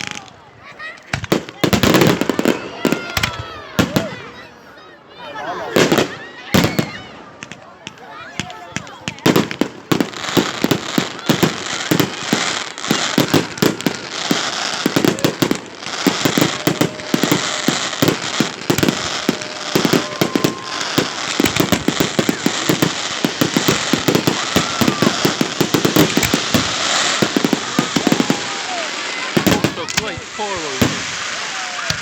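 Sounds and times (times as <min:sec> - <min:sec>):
fireworks bangs and crackling: 0:00.0 - 0:04.5, 0:05.7 - 0:32.0.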